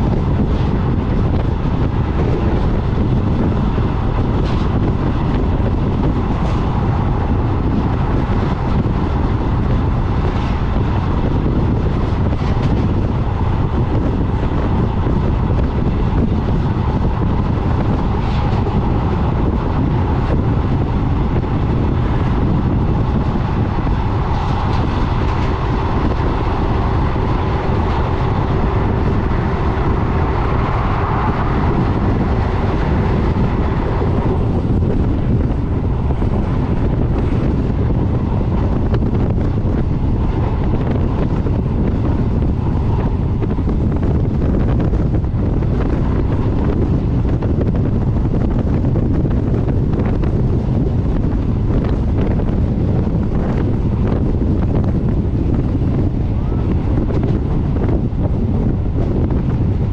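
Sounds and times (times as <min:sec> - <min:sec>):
train wheels rumbling on rails: 0:00.0 - 0:59.9
wind buffeting microphone: 0:00.0 - 0:59.9.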